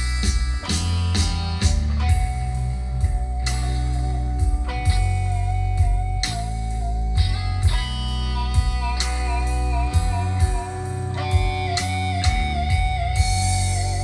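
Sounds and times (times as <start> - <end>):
backing track beat: 0.0 - 14.0
electric guitar blues lead: 0.0 - 14.0
sustained bass notes: 0.0 - 14.0.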